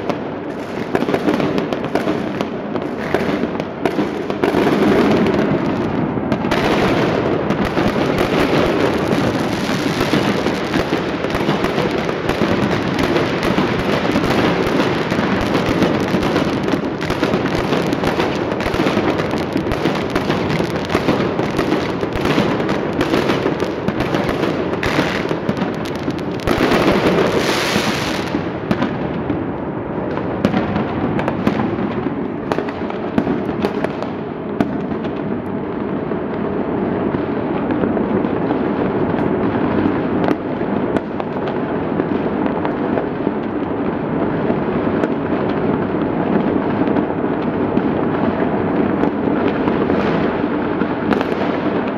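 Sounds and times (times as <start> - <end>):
fireworks and firecrackers barrage: 0.0 - 51.9.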